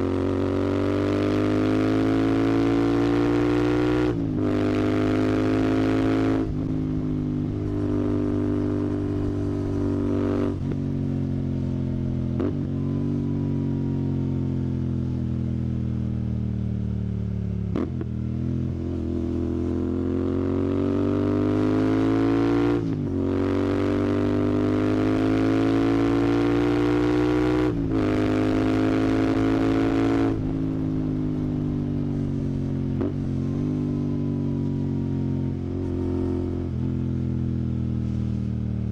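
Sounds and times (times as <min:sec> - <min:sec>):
motorcycle engine revving: 0:00.0 - 0:15.2, 0:17.6 - 0:38.9.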